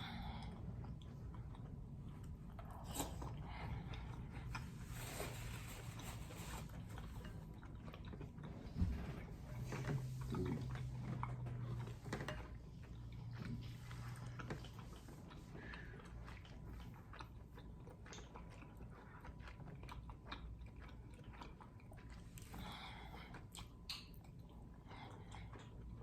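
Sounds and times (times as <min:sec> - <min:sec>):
chewing and biting: 0:00.5 - 0:26.0.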